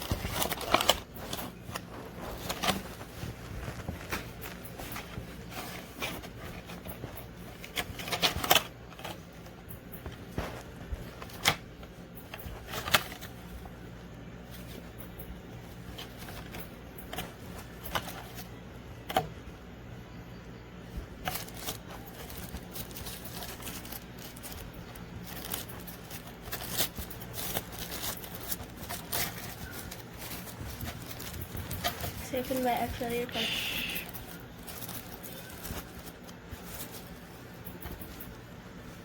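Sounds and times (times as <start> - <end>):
packaging clicks and rustles: 0.0 - 19.3, 20.9 - 39.0
low steady hum: 0.0 - 39.0.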